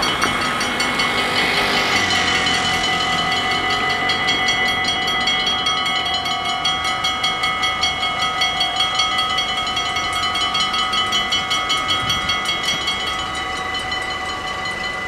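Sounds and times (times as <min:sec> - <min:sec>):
level-crossing bells ringing: 0:00.0 - 0:15.0.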